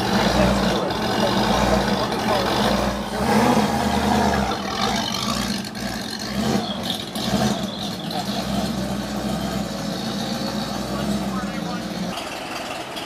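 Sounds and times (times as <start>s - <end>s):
car engine running at low revs: 0.0s - 12.2s.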